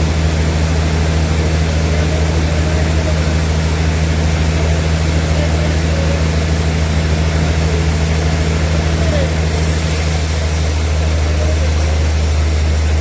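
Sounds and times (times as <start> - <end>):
sawmill machinery humming: 0.0 - 13.0.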